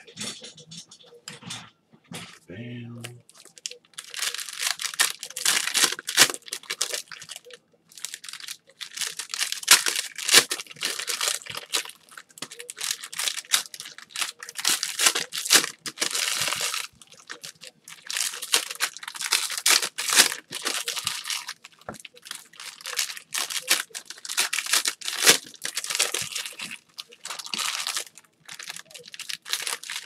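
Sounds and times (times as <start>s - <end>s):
foil wrappers tearing and crinkling: 3.3s - 30.0s.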